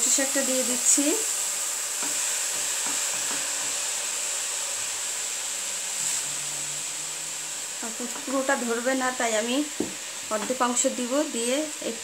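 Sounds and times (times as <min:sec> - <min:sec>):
leaves rustling in pan: 0:00.0 - 0:11.8
steady hiss: 0:00.0 - 0:12.0.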